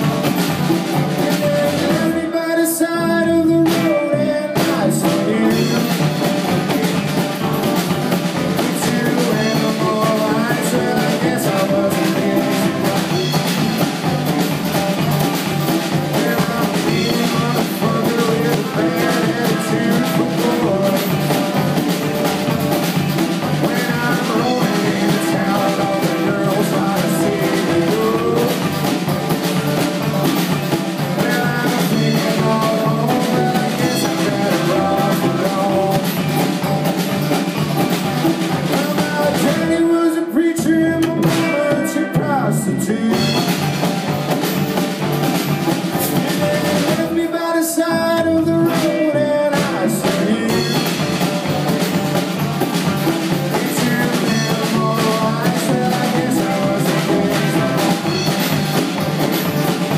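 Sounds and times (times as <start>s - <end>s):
drum kit: 0.0s - 59.9s
live blues-rock band: 0.0s - 59.9s.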